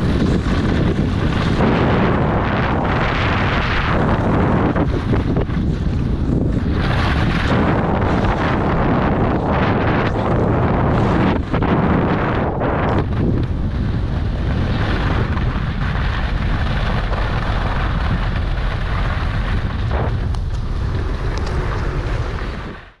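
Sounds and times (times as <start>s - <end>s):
skis sliding on snow: 0.0s - 23.0s
wind rushing over microphone: 0.0s - 23.0s.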